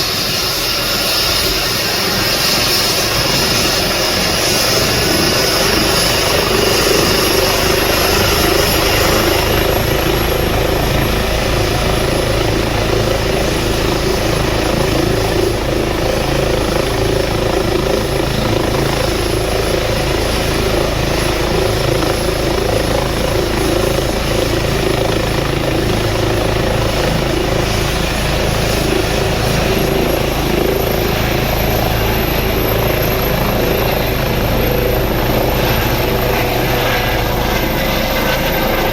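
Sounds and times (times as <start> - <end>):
helicopter rotor and turbine: 0.0 - 38.9
high turbine whine: 0.0 - 38.9.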